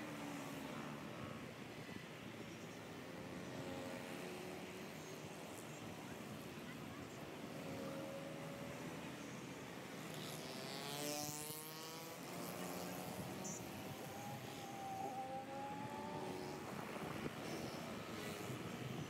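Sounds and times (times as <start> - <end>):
busy road traffic: 0.0 - 19.0.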